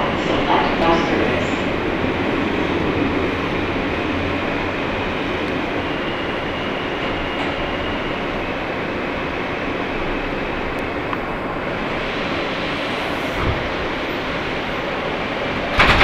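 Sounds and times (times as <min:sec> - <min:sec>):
subway wheels on rails: 0:00.0 - 0:16.0.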